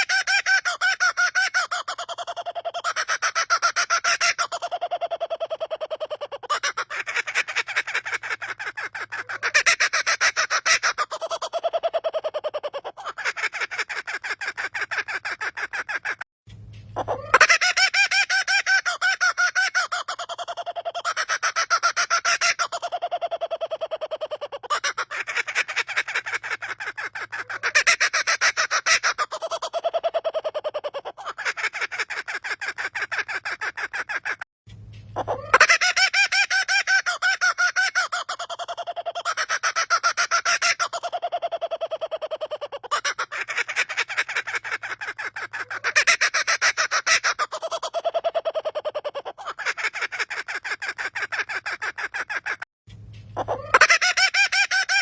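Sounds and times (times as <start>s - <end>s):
bird laughter-like call: 0.0s - 16.2s, 16.9s - 34.5s, 35.1s - 52.7s, 53.3s - 55.0s.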